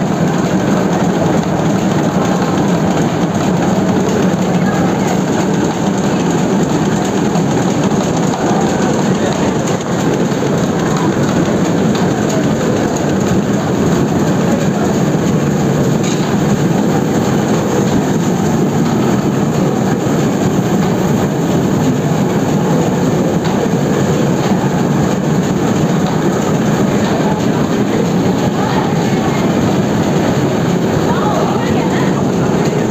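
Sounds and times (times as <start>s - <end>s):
printing press running: 0.0s - 32.9s.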